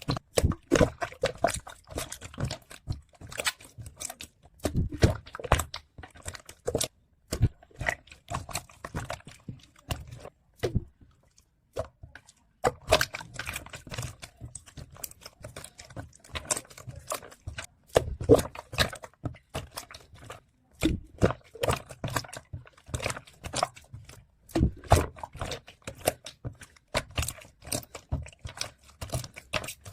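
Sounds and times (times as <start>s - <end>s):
slime squelching and popping: 0.0s - 29.9s.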